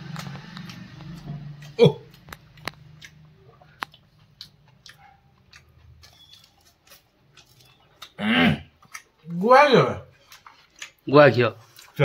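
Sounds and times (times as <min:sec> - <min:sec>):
wet chewing and mouth clicks: 0:00.0 - 0:09.4, 0:10.0 - 0:12.0.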